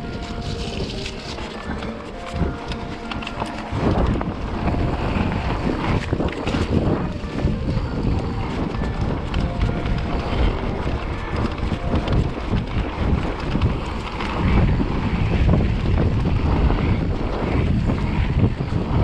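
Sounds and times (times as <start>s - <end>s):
bike rumbling and rattling: 0.0s - 19.0s
wind buffeting microphone: 0.0s - 19.0s.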